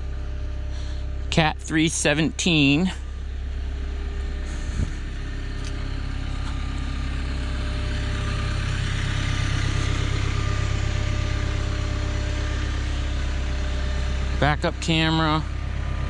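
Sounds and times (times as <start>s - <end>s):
excavator diesel engine idling: 0.0s - 16.0s.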